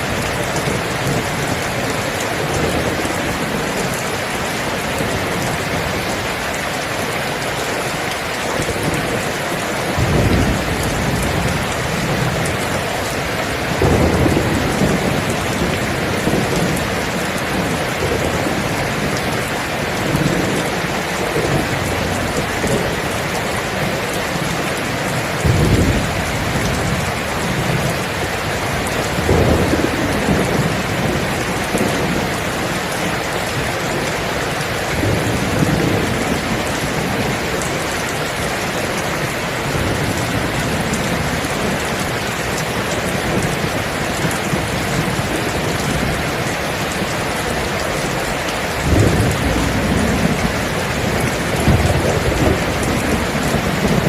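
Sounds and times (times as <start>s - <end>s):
heavy rain: 0.0s - 54.0s
thunder rumbling: 7.4s - 54.0s.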